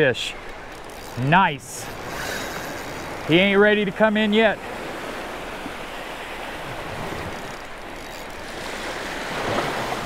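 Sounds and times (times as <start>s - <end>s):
surf washing through shallows: 1.0s - 10.0s.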